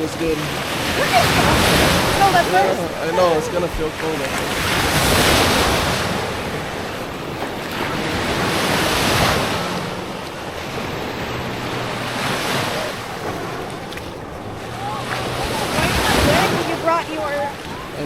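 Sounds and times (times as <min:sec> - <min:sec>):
small waves breaking on sand: 0:00.0 - 0:18.0
wind buffeting microphone: 0:00.0 - 0:18.0.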